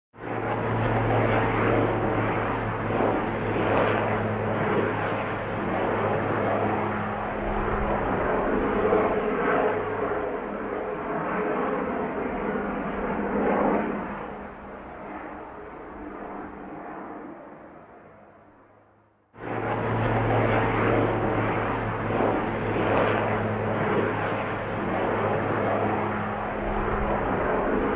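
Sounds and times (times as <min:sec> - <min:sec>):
helicopter flying overhead: 0:00.2 - 0:27.9.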